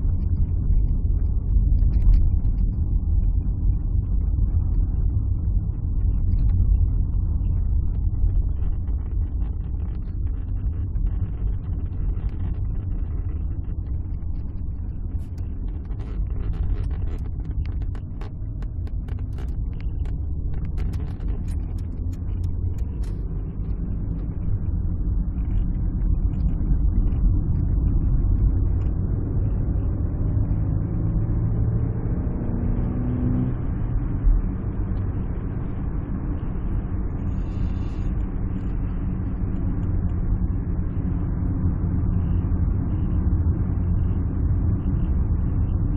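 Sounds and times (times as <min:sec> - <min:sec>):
engine and road rumble in cabin: 0:00.0 - 0:45.9.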